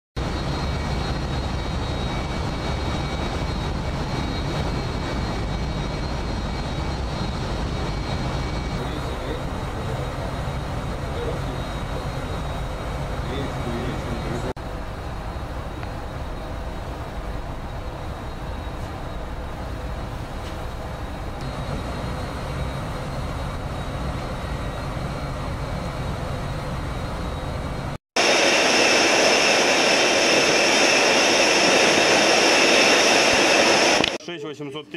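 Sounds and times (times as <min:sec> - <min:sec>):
ship machinery rumble: 0:00.2 - 0:34.2
wind and sea: 0:00.2 - 0:34.2
faint high whine: 0:00.2 - 0:34.6.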